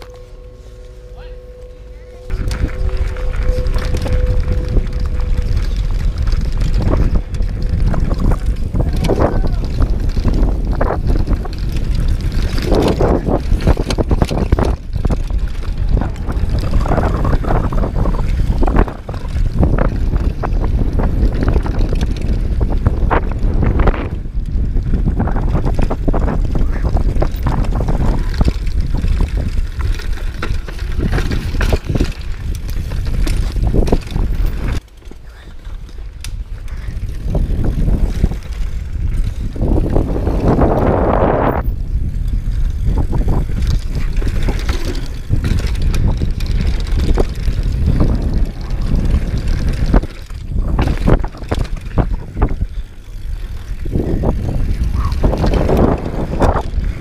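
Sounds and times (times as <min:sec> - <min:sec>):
wind rumbling over microphone: 0:00.0 - 0:57.0
bike rattling and knocking: 0:02.3 - 0:57.0.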